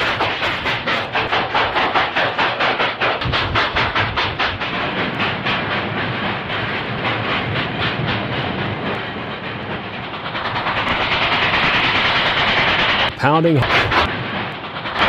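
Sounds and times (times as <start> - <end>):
freight cars rolling and rattling: 0.0 - 15.0
steam locomotive exhaust beats: 0.0 - 15.0.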